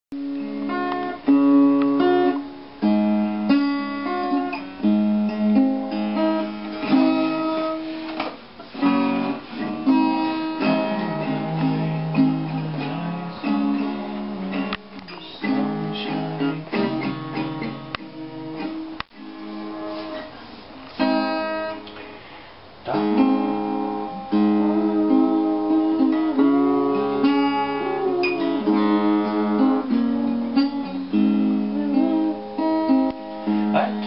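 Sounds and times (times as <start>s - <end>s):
acoustic guitar strummed and picked: 0.2s - 34.0s.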